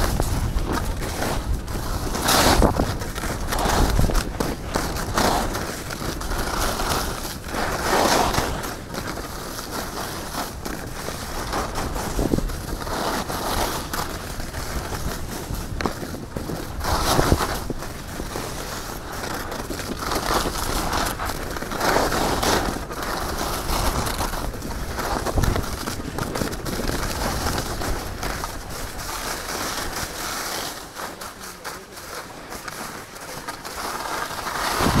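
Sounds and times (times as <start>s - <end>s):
skis scraping over snow: 0.0s - 35.0s.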